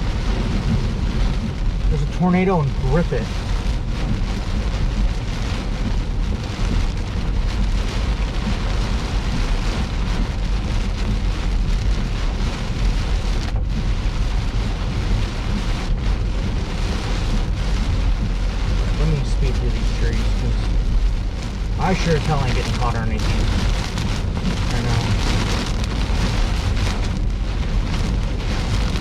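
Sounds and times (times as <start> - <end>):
rain on a car: 0.0 - 29.0
road and engine rumble: 0.0 - 29.0.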